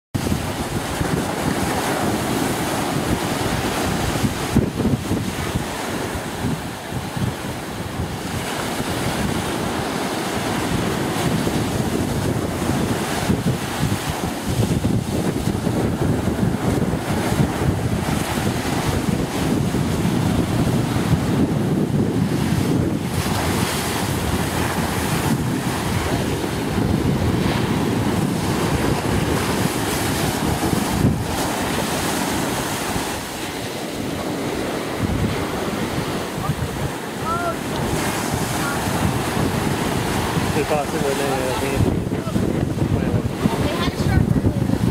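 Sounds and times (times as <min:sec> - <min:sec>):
wind buffeting microphone: 0:00.1 - 0:44.9
surf washing: 0:00.2 - 0:44.9.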